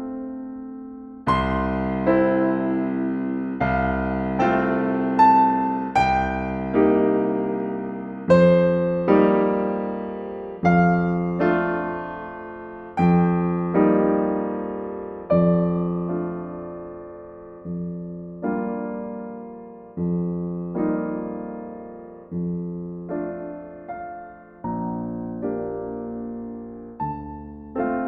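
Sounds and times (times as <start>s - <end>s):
slow solo piano music: 0.0s - 28.0s.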